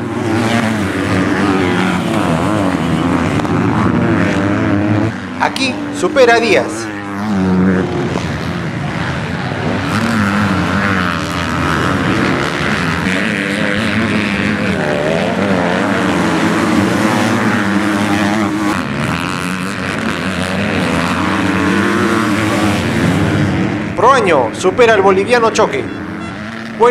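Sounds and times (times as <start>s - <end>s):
motocross bike engines revving: 0.0s - 26.9s.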